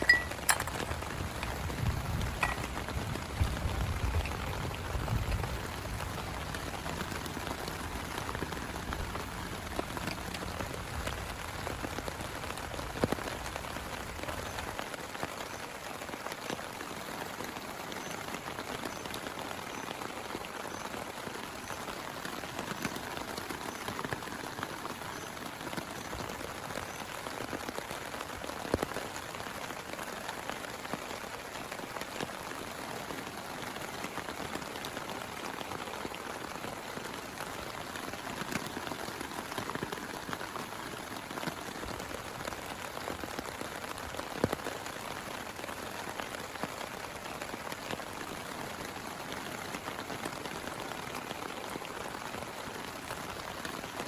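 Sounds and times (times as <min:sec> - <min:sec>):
heavy rain falling: 0:00.0 - 0:54.0
sharp raindrop impacts: 0:00.0 - 0:54.0.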